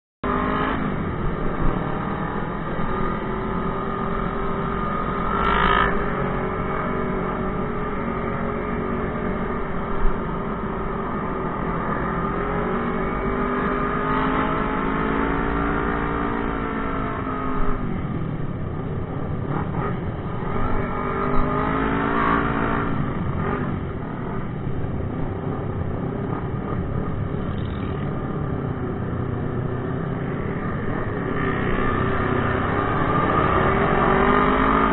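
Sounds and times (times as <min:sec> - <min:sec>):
motorcycle engine revving: 0:00.2 - 0:18.1, 0:18.9 - 0:34.9
other motorcycles: 0:00.2 - 0:34.9.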